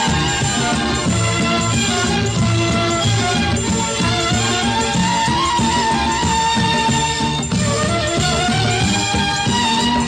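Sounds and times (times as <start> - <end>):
folk-style instrumental music: 0.0 - 10.0.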